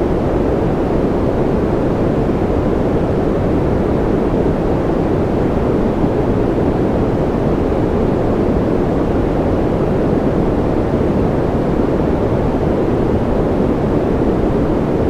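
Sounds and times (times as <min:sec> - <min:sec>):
deep white noise: 0:00.0 - 0:15.0.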